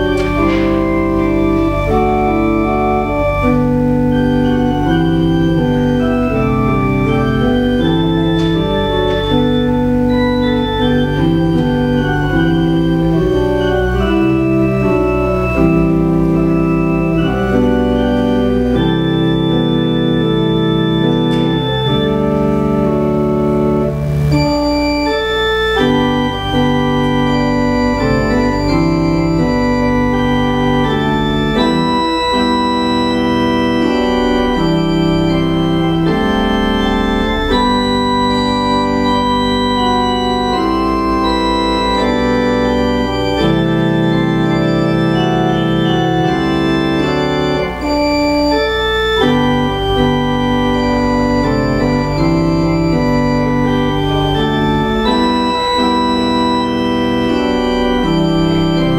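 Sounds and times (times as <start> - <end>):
church organ chords: 0.0 - 58.9.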